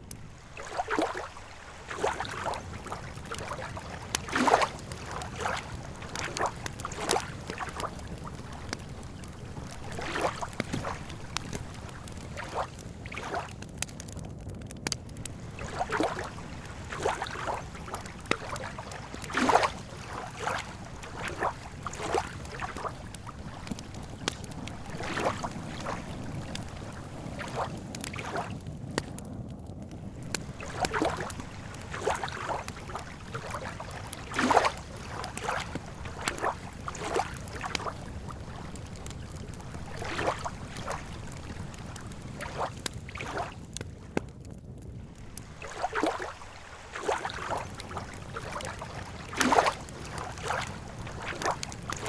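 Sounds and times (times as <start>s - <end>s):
small splashes: 0.0s - 13.7s, 15.2s - 29.2s, 30.1s - 44.2s, 45.1s - 52.0s
water lapping at shore: 0.0s - 14.2s, 14.8s - 29.2s, 29.9s - 44.3s, 45.0s - 52.0s.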